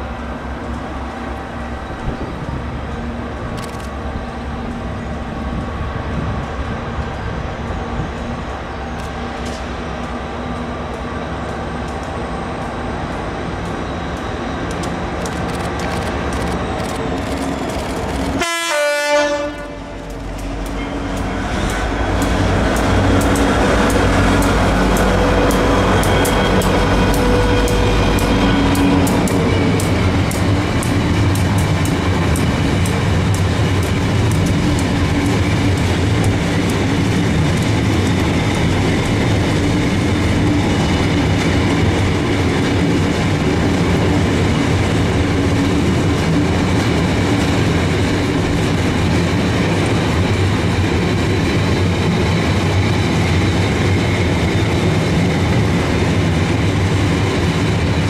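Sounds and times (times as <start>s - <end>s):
diesel locomotive engine: 0.0s - 58.0s.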